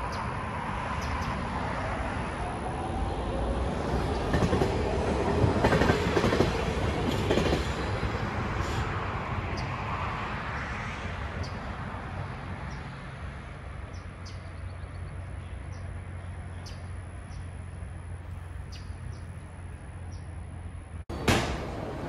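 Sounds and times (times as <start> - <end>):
train rumble: 0.0 - 13.9, 14.6 - 22.0.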